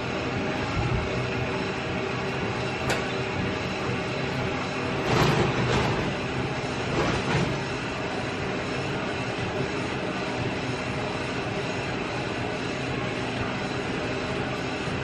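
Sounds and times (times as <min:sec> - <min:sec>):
gym background rumble: 0:00.0 - 0:15.0.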